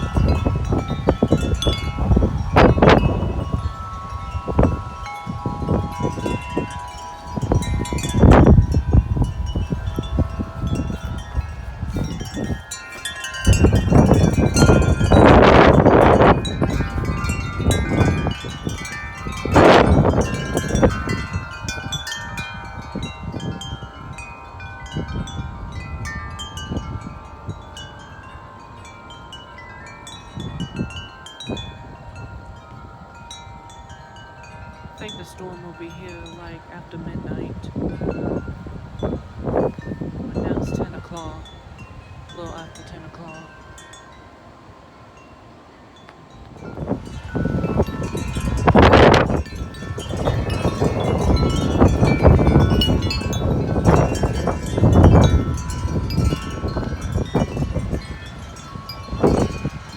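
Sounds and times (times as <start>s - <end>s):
wind gusts hitting microphone: 0.0s - 45.4s, 46.0s - 59.9s
wind chimes ringing: 0.0s - 59.9s.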